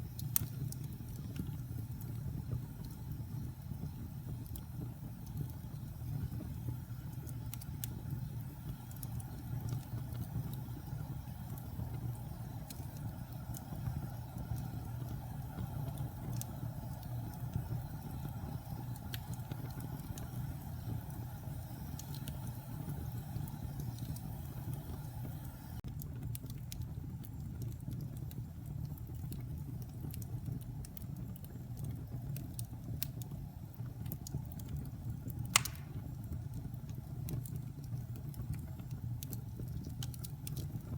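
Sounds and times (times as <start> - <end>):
burning logs crackling and popping: 0.0 - 40.9
rumble of fire flames: 0.0 - 40.9.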